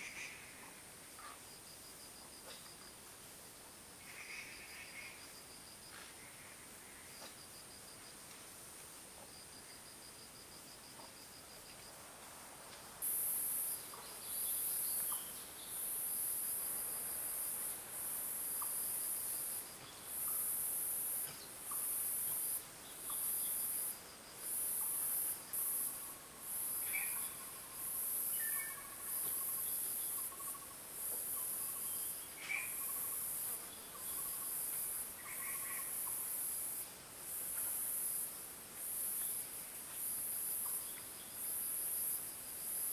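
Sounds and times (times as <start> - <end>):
faint high insect trill: 0.0 - 12.0, 13.0 - 42.9.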